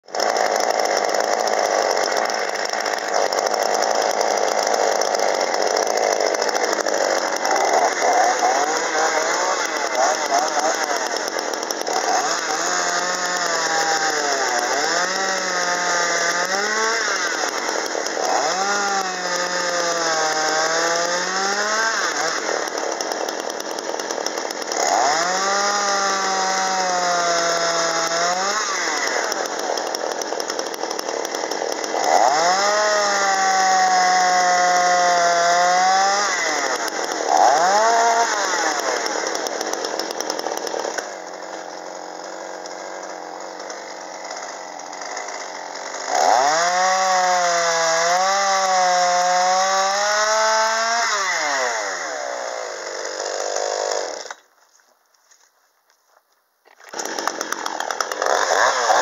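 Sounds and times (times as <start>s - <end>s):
chainsaw idling: 0.0s - 54.5s, 56.7s - 59.0s
chainsaw cutting log: 0.0s - 55.5s, 56.7s - 59.0s.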